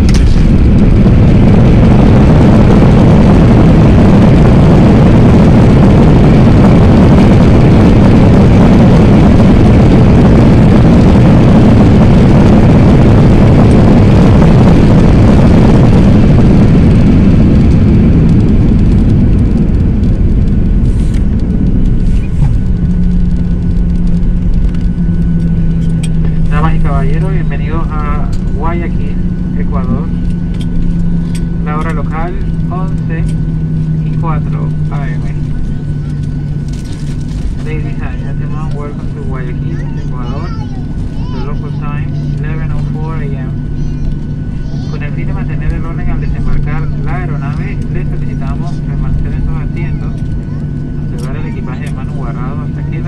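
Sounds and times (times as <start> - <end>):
jet airliner landing roar: 0.0 - 53.0
steady low hum: 0.0 - 53.0.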